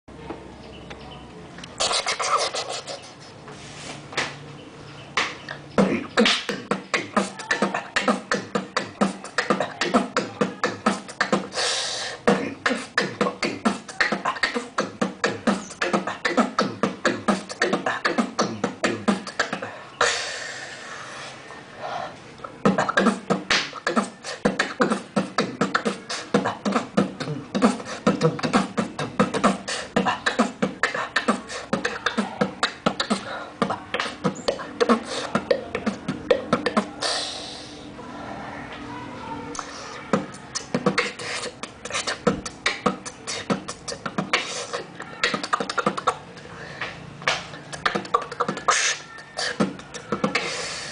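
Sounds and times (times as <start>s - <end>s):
beatboxing: 1.6s - 3.4s, 5.2s - 21.4s, 22.4s - 37.8s, 39.5s - 50.9s
beatbox hissing sounds: 1.7s - 4.0s, 5.8s - 21.4s, 22.6s - 37.8s, 39.6s - 46.2s, 47.6s - 50.9s.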